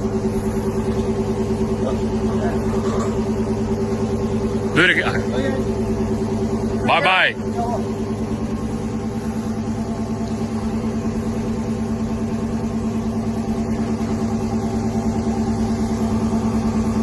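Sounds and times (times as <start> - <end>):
motor humming with pulsing: 0.0 - 17.0.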